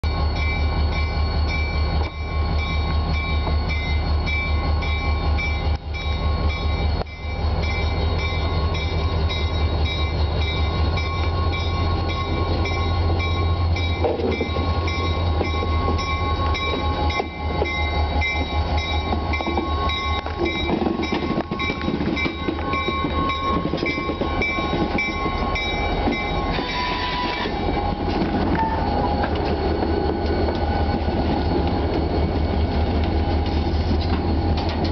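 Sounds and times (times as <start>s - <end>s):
diesel locomotive engine rumble: 0.0s - 34.9s.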